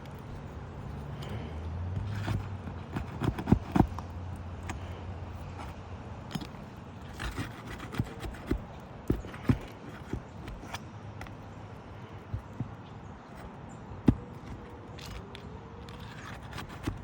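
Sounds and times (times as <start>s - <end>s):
hand tools tapping and scraping: 0.0s - 17.0s.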